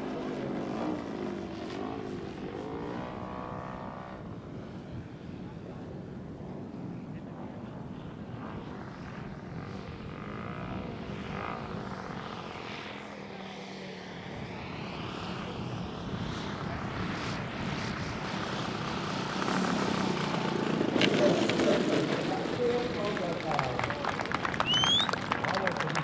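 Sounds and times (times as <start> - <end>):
model plane engine and propeller: 0.0 - 26.0.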